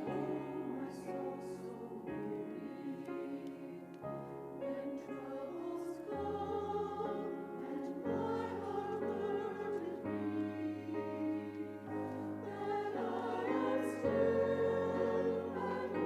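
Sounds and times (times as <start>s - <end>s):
choir singing held chords: 0.0s - 16.0s
church music: 0.0s - 16.0s.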